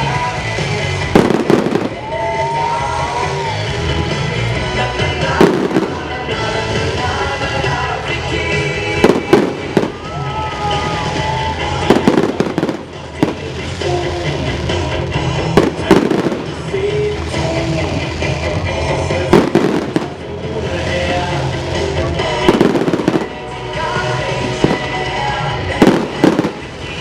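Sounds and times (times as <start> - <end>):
show music: 0.0 - 27.0
fireworks bangs: 1.0 - 3.2, 5.2 - 8.0, 8.6 - 27.0.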